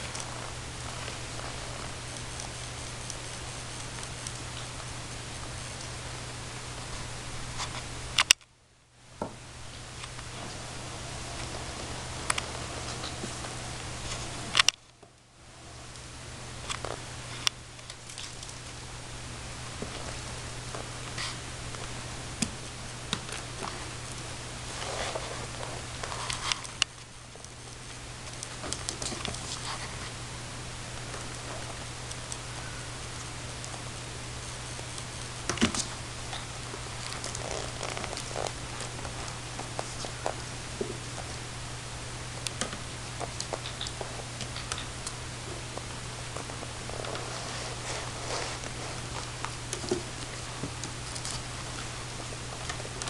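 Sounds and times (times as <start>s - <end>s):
steady hiss and hum: 0.0s - 53.0s.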